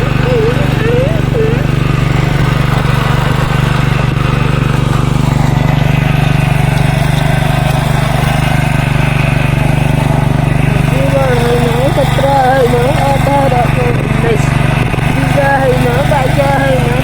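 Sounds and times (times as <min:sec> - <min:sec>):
small tiller engine running: 0:00.0 - 0:17.0.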